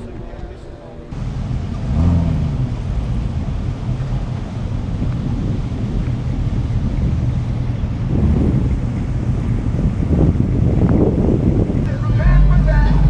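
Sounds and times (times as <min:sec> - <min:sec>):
low engine rumble: 0:00.0 - 0:13.0
wind buffeting microphone: 0:00.0 - 0:13.0.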